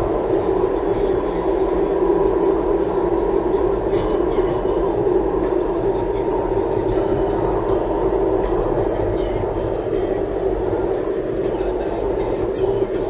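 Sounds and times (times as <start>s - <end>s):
road and tyre drone: 0.0s - 13.0s.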